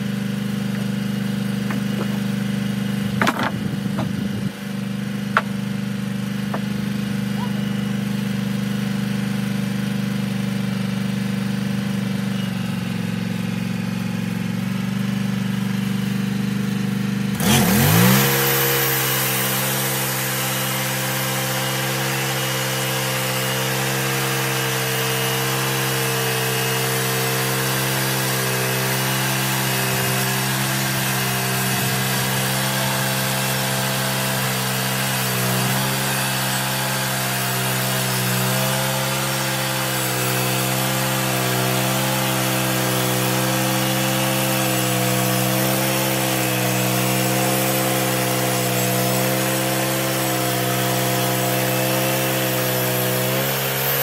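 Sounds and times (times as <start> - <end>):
sawmill engine revving: 0.0 - 54.0.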